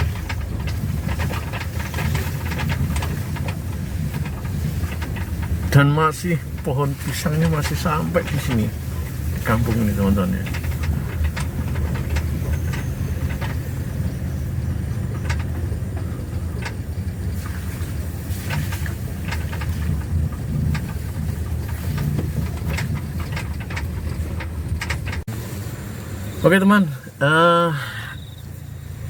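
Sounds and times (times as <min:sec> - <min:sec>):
knocks and rattles from jolting: 0:00.0 - 0:25.3
vehicle engine and road rumble: 0:00.0 - 0:29.0.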